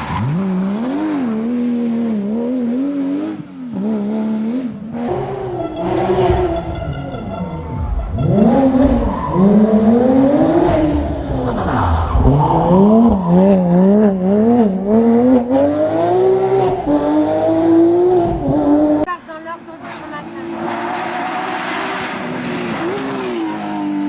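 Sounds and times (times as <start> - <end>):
race car engine accelerating: 0.0 - 24.0.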